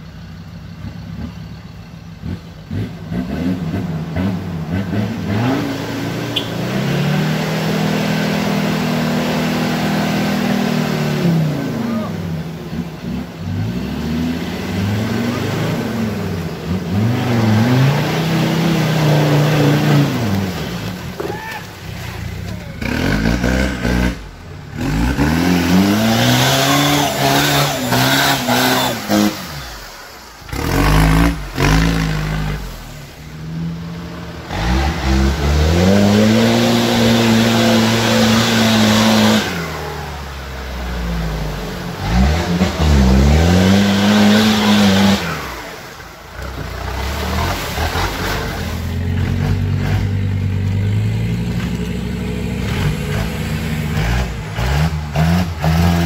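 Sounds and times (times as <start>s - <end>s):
off-road engines revving in mud: 0.0s - 56.0s.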